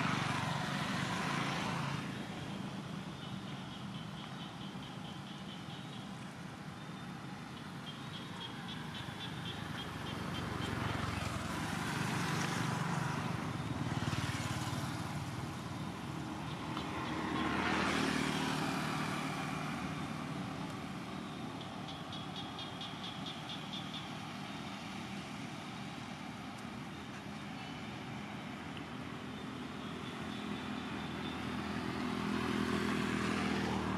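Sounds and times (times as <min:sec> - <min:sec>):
vehicles passing by: 0:00.0 - 0:33.9.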